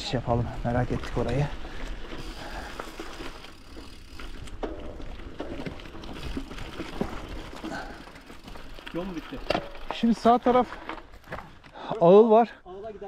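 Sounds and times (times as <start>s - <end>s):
footsteps on rough ground: 0.6s - 12.0s.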